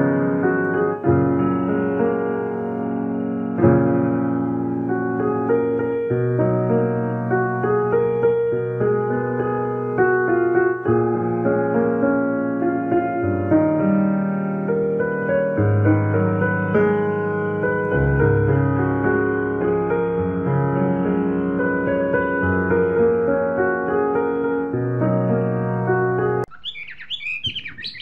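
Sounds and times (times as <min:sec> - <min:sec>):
slow instrumental melody: 0:00.0 - 0:26.5.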